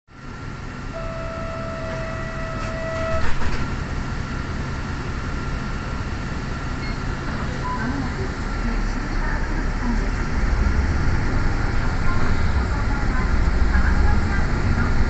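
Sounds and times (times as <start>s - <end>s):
street traffic: 0.1s - 15.0s
streetcar rumble: 0.1s - 15.0s.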